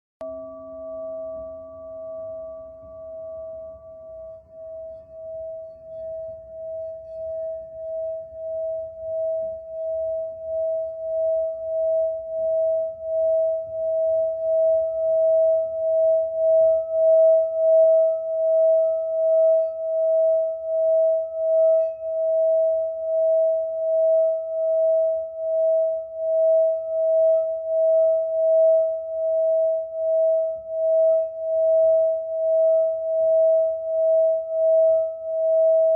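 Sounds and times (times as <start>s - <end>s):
pulsing sustained ringing tone: 0.2s - 35.9s.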